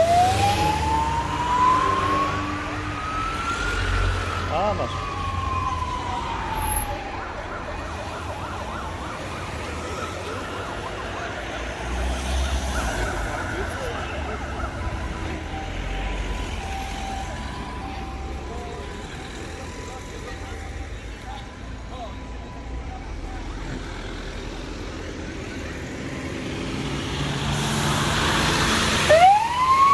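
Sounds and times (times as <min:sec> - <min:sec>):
fire engine sirens wailing: 0:00.0 - 0:29.9.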